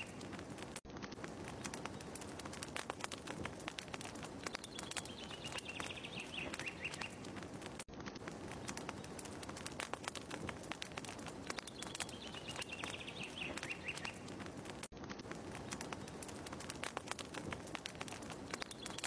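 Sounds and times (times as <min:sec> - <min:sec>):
birds chirping: 0:00.0 - 0:00.6, 0:01.3 - 0:07.7, 0:08.3 - 0:14.8, 0:15.4 - 0:19.0
fire crackling: 0:00.0 - 0:19.0.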